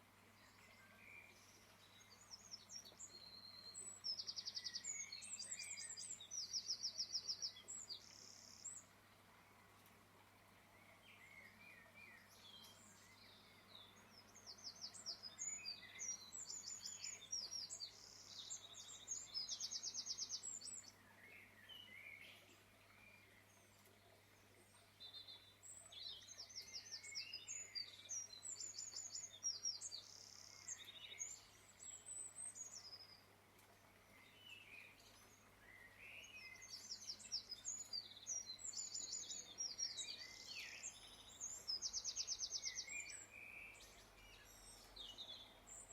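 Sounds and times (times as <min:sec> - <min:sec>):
small birds singing: 0:00.0 - 0:45.9.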